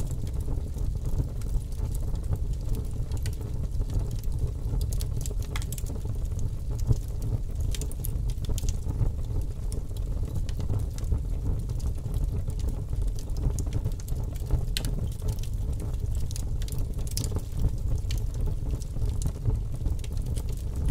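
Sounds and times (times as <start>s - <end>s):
fire crackling and rumbling: 0.0s - 20.9s.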